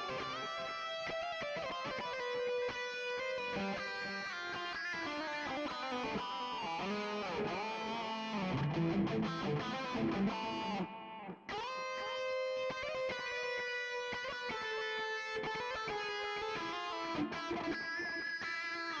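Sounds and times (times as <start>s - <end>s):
electric guitar lead: 0.0s - 19.0s.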